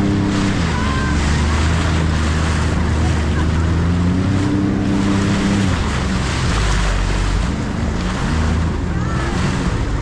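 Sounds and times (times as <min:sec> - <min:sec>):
jet ski engine drone: 0:00.0 - 0:10.0
rushing water and spray: 0:00.0 - 0:10.0.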